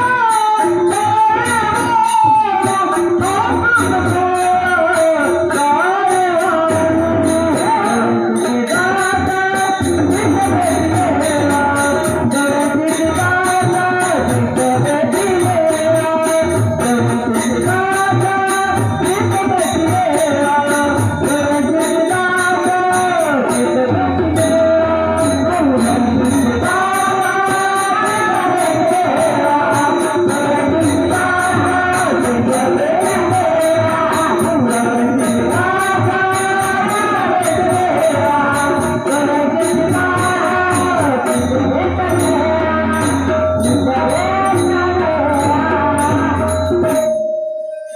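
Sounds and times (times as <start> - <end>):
small hand cymbals jingling: 0.2 - 47.9.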